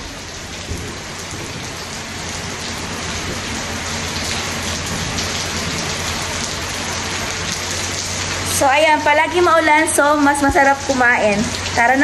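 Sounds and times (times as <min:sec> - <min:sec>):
rain pattering on a roof: 0:00.0 - 0:12.0.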